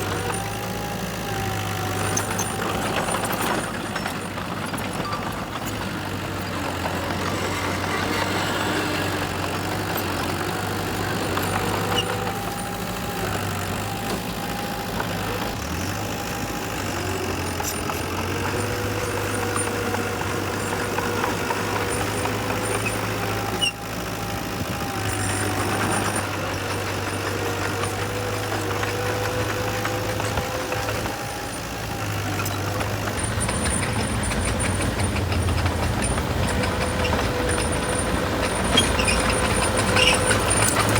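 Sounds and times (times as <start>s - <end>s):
heavy diesel engines working: 0.0s - 40.9s.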